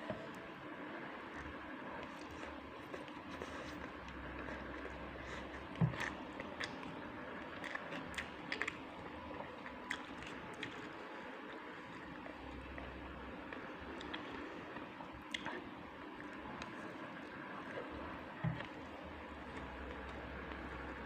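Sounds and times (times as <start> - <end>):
steady background hum: 0.0 - 21.0
person chewing food: 1.2 - 21.0.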